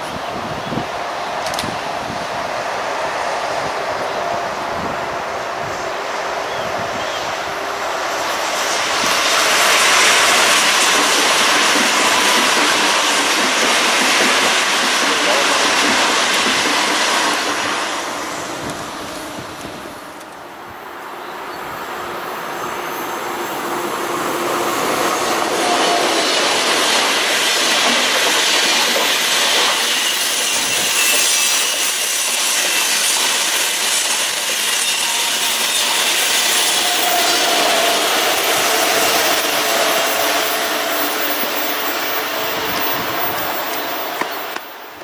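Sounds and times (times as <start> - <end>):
train passing on rails: 0.0 - 45.0.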